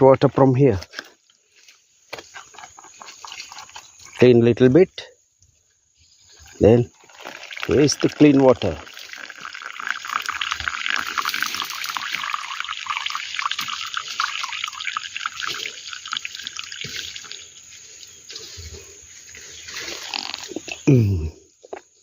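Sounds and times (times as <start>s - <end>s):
spring water trickling: 0.9s - 4.2s, 6.2s - 20.9s.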